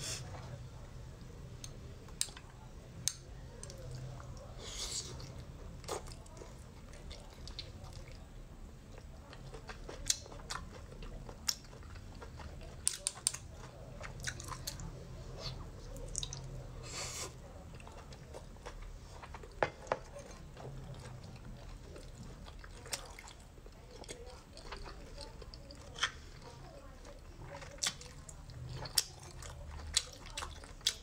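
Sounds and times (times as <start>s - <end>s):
wet chewing: 1.6s - 31.0s.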